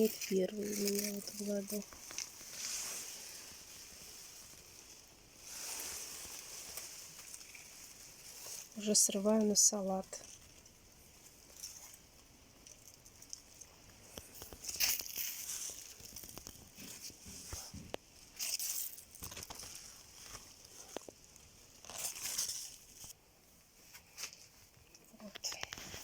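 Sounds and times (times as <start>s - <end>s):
plant leaves rustling: 0.0s - 23.2s.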